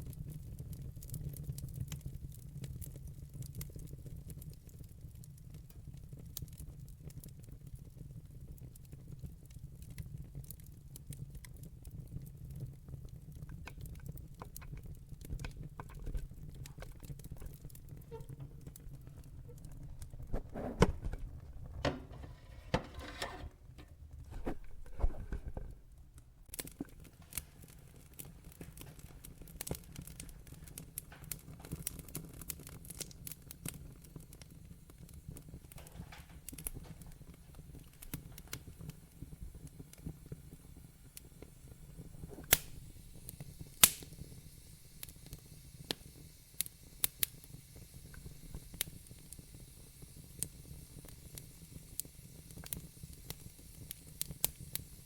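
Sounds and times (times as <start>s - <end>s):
wood fire crackling in fireplace: 0.0s - 55.0s.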